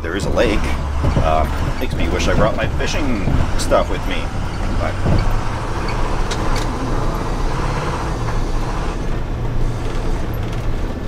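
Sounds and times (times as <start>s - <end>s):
bus engine droning: 0.0s - 11.0s
tyre and road noise: 0.0s - 11.0s.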